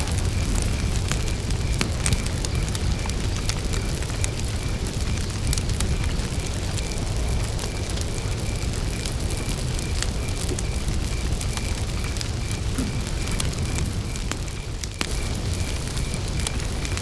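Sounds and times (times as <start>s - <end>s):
campfire crackling and popping: 0.0s - 17.0s
cricket chirping: 0.0s - 17.0s.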